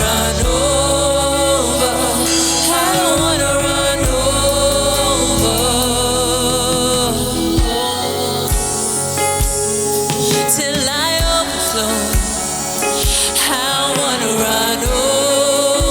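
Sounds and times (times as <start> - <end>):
gospel singing: 0.0 - 15.9
sustained instrumental backing: 0.0 - 15.9.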